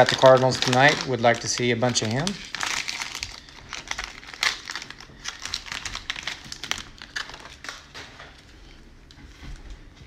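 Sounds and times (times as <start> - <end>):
cellophane wrapper crinkling and tearing: 0.0 - 8.4.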